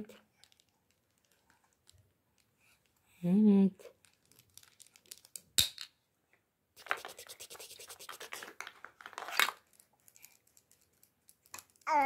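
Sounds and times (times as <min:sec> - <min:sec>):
plastic toys clicking and rustling: 0:00.0 - 0:03.0, 0:03.8 - 0:05.6, 0:06.8 - 0:12.0.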